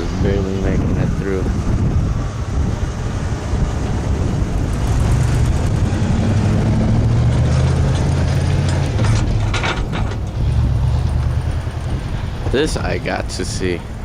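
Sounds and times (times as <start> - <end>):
road noise in snow: 0.0 - 14.0
vehicle engine low hum: 0.0 - 14.0.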